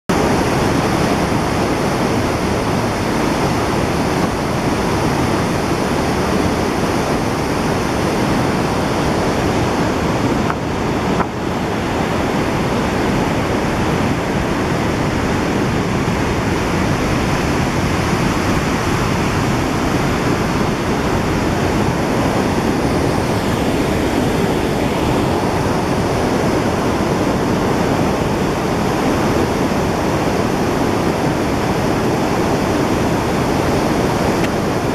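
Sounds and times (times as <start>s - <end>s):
river rushing over rapids: 0.1s - 34.9s.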